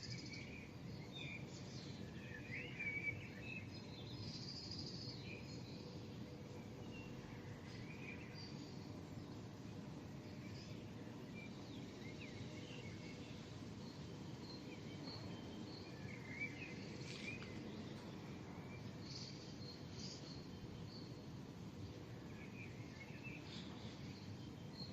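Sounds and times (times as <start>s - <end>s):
low city hum: 0.0s - 24.9s.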